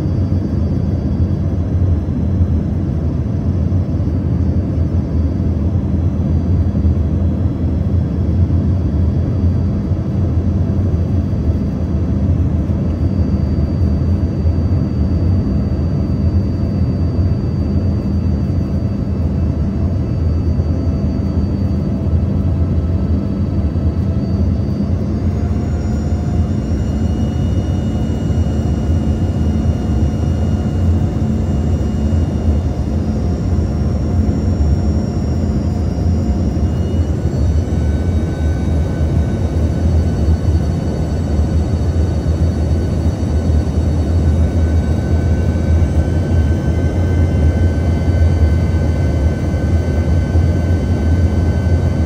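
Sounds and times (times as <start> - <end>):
deep rumble of airflow and engines: 0.0 - 52.0
thin jet engine whine: 0.0 - 52.0.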